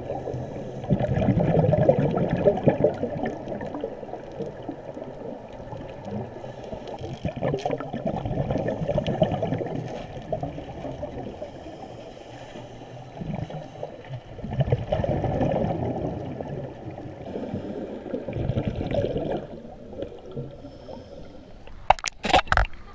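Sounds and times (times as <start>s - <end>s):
muffled underwater water rushing: 0.0s - 22.9s.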